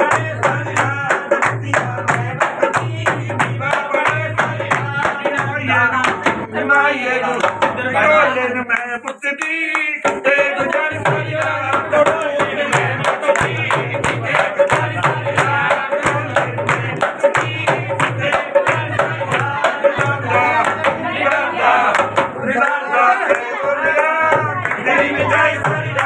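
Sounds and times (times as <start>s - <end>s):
hand drum steady beat: 0.0s - 6.6s, 10.0s - 26.0s
folk singing voices: 0.0s - 26.0s.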